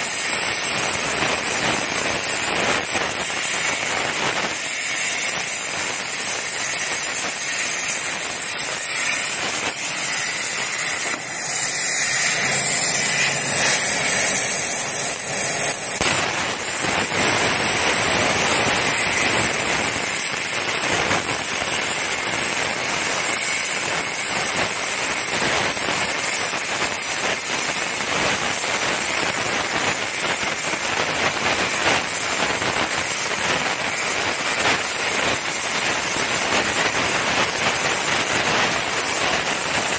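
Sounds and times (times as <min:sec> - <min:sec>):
plasma cutter hissing and crackling: 0:00.0 - 0:39.9.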